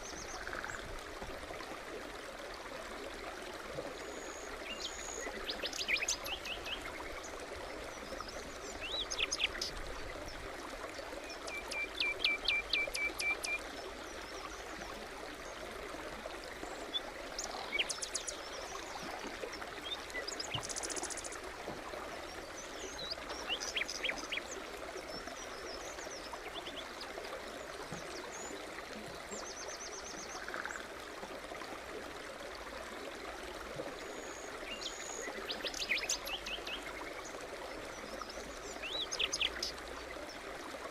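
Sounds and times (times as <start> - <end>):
forest stream babbling: 0.0 - 40.9.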